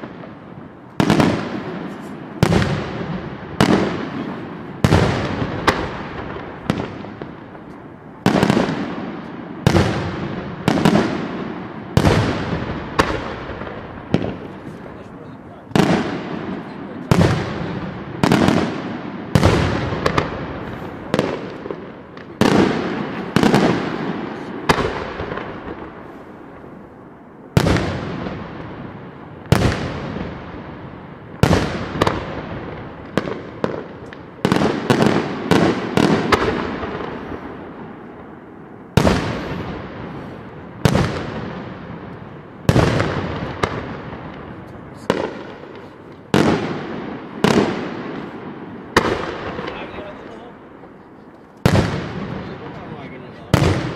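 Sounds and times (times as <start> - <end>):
rolling echo of bangs: 0.0 - 7.6, 8.2 - 14.8, 15.6 - 26.1, 27.6 - 38.2, 39.0 - 50.2, 51.7 - 53.9
fireworks bursting: 0.0 - 53.9.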